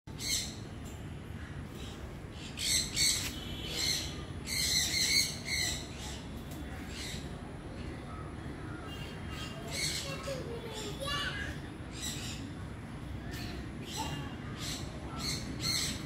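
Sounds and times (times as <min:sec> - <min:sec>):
birds chirping and squawking: 0:00.1 - 0:16.0.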